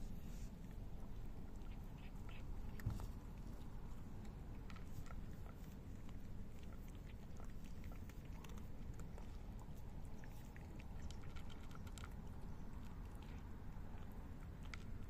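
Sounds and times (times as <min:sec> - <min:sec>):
cats crunching dry kibble: 0:00.0 - 0:15.0.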